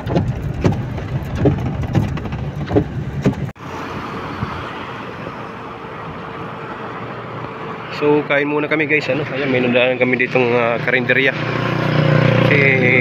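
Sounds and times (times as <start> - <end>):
car road noise rumble: 0.0 - 10.6.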